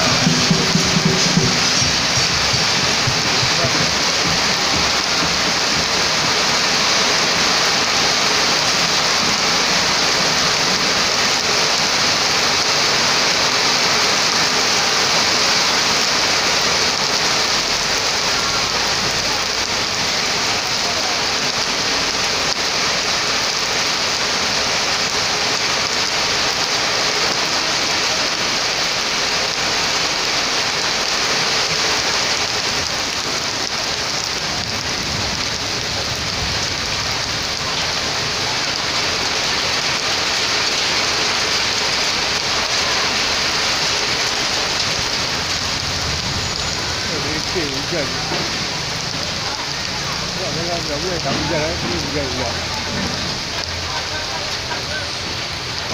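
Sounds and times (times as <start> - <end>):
heavy rain on concrete and grass: 0.0 - 55.9.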